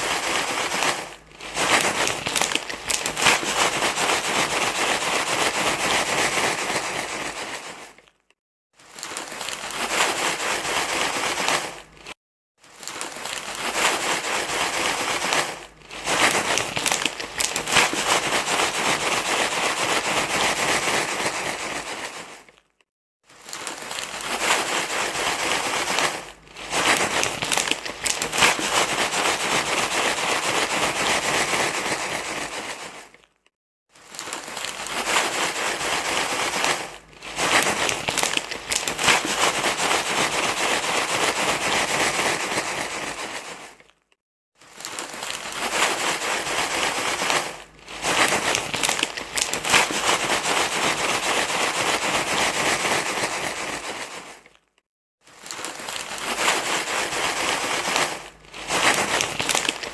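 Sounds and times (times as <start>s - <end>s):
crinkling and rustling: 0.0s - 59.9s.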